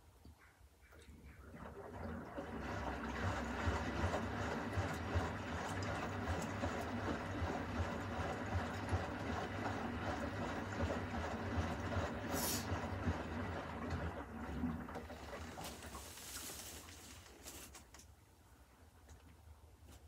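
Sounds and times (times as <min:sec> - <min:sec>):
water sloshing in washing machine drum: 0:01.4 - 0:17.8.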